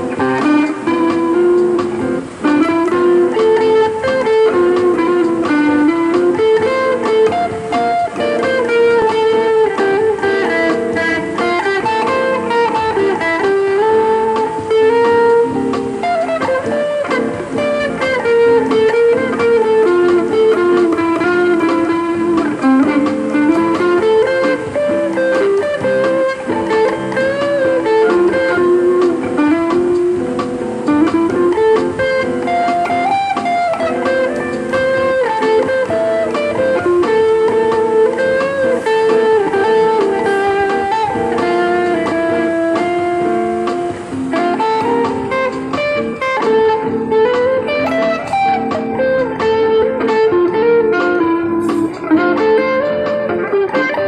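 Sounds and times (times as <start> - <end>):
electric guitar melody: 0.0 - 54.0.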